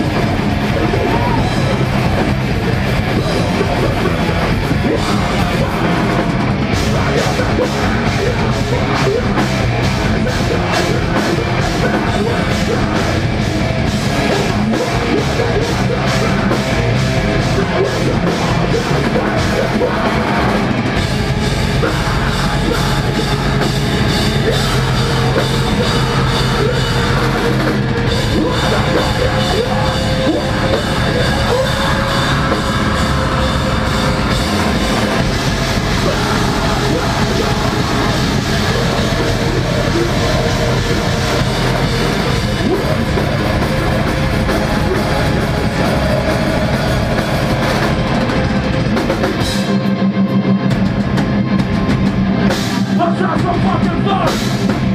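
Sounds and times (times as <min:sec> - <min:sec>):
harsh yelled vocals: 0:00.0 - 0:49.8, 0:52.4 - 0:54.9
metal band playing live: 0:00.0 - 0:54.9.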